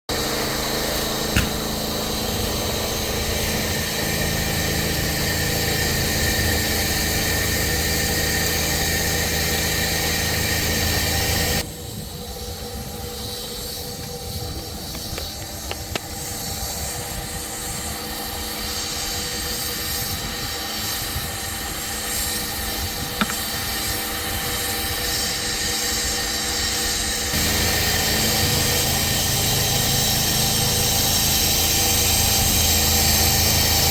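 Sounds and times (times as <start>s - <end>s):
pressure washer engine running: 0.0s - 33.9s
hissing spray: 0.1s - 33.9s.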